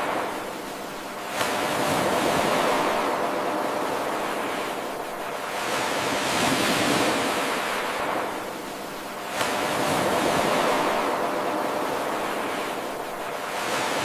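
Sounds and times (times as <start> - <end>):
ocean waves washing in: 0.0 - 14.0.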